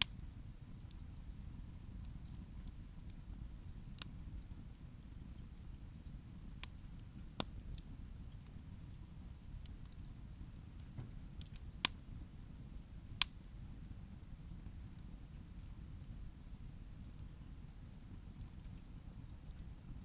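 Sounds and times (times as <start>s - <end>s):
wood fire popping and crackling: 0.0s - 20.0s.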